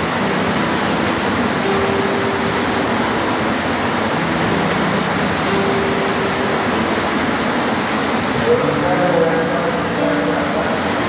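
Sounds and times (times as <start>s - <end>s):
steady rain hissing: 0.0s - 11.0s.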